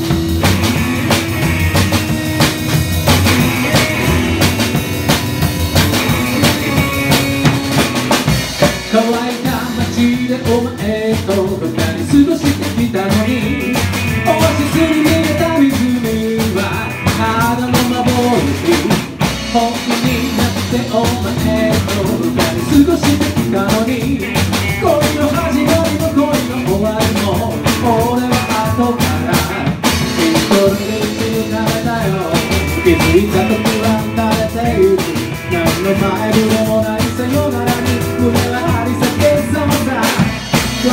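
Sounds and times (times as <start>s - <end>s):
small band playing live: 0.0s - 40.9s
steady drum beat: 0.0s - 40.9s.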